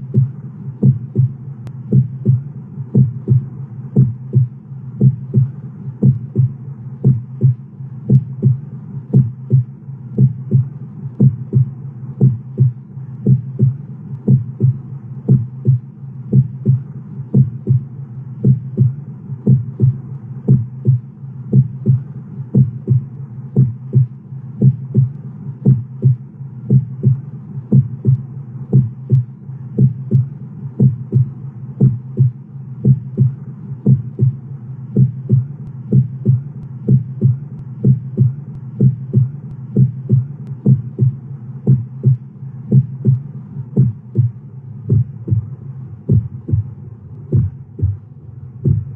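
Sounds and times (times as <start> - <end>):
heartbeat double thump: 0.0 - 17.8, 18.4 - 34.4, 35.0 - 48.9
low steady hum: 0.0 - 48.9.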